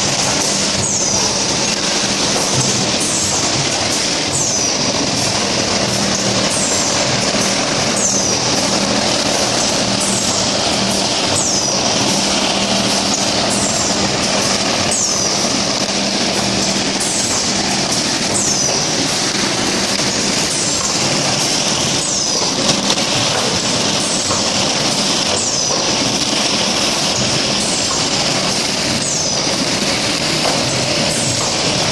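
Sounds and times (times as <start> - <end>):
machine running with low hum: 0.0 - 31.9.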